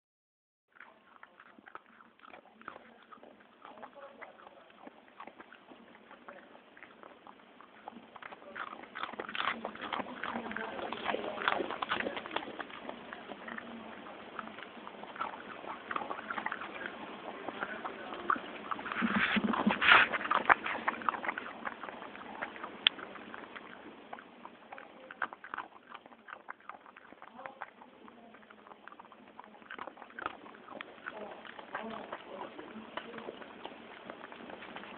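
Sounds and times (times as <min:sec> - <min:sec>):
dog crunching food: 0:00.7 - 0:34.9.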